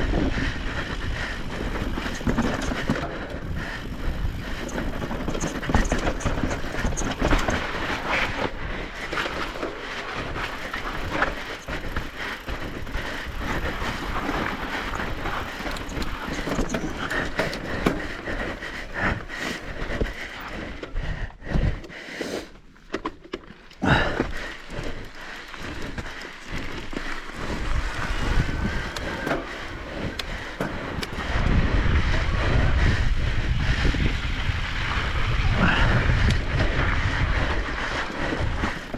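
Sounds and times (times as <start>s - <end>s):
wind rumble on microphone: 0.0s - 21.9s, 23.8s - 38.9s
bike tyres rattling on rough trail: 0.0s - 38.9s.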